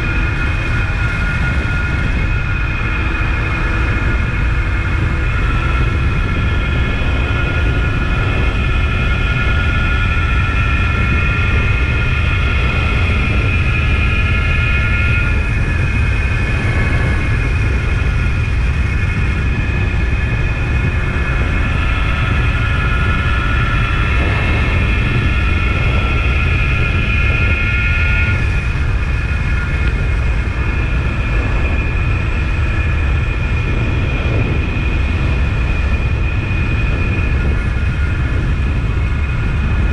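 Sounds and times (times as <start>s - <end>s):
two-stroke motorcycle engine: 0.0s - 39.9s
wind rumble on microphone: 0.0s - 39.9s.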